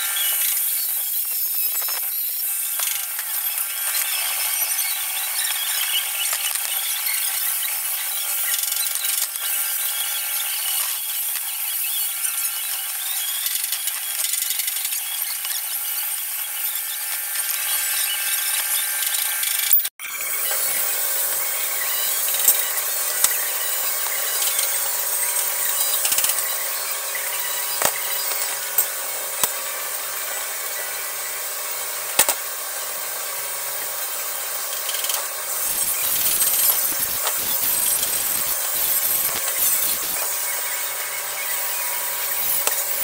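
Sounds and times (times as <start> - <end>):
small power tool running: 0.0 - 43.0.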